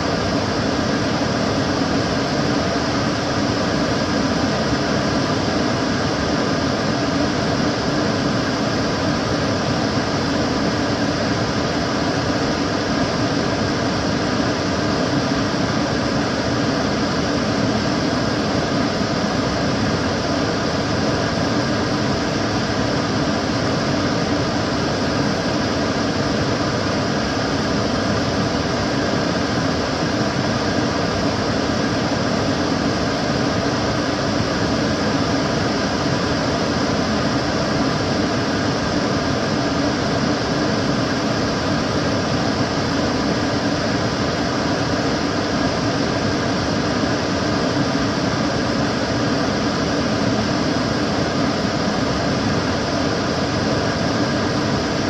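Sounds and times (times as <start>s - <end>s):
extractor fan running: 0.0s - 55.0s.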